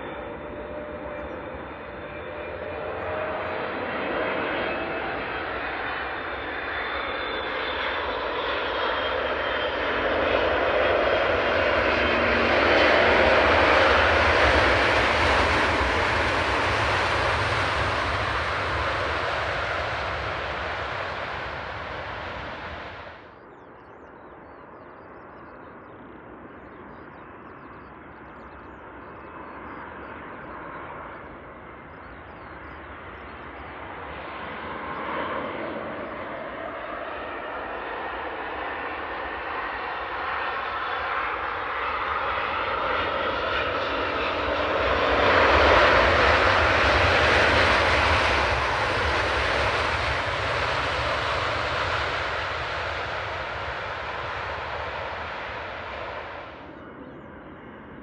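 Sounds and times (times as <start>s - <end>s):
faint jet noise: 0.0s - 58.0s
jet airliner landing: 0.0s - 58.0s.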